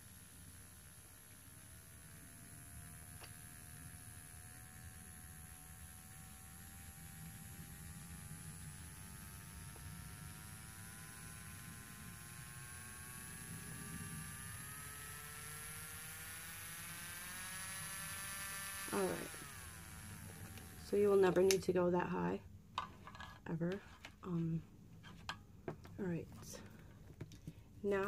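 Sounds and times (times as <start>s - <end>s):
nail drill motor whine: 0.0s - 28.0s.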